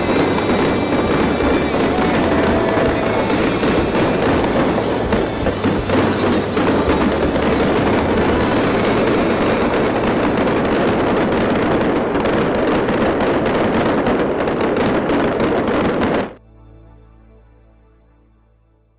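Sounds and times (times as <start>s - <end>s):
fireworks crackling: 0.0s - 16.4s.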